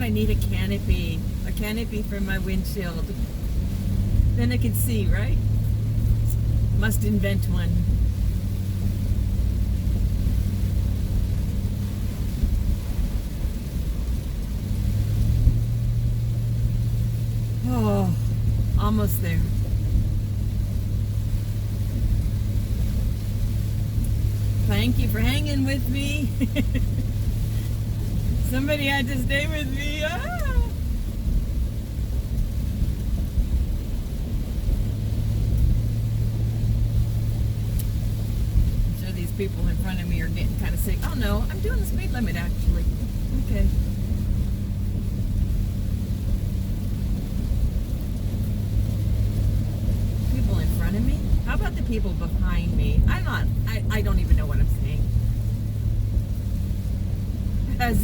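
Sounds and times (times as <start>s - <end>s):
van engine and road noise: 0.0s - 58.0s.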